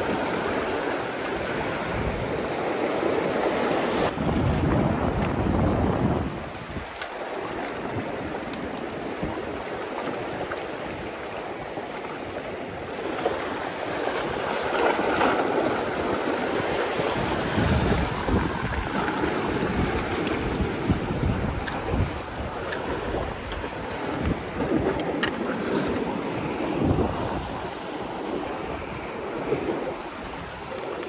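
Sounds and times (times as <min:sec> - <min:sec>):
sea waves washing in: 0:00.0 - 0:31.0
wind buffeting microphone: 0:00.0 - 0:31.0.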